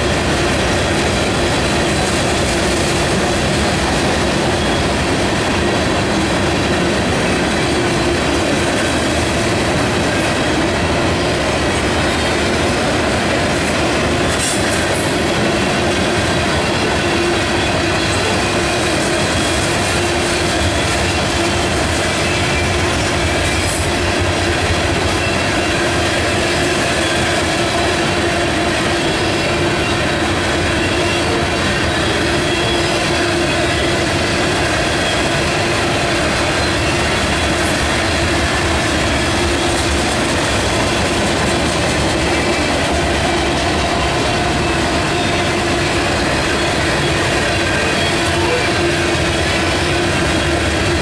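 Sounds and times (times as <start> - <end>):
freight train wheels rumbling on rail: 0.0 - 51.0.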